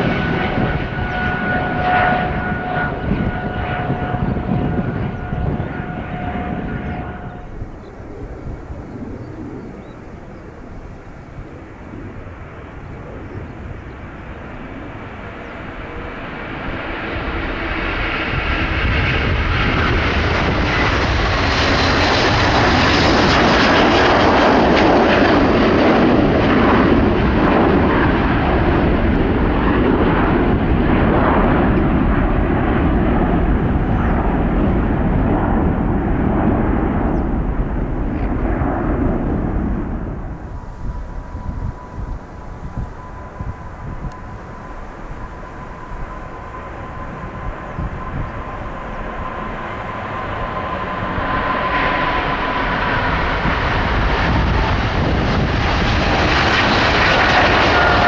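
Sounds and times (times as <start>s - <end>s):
jet airliner taking off: 0.0s - 58.0s.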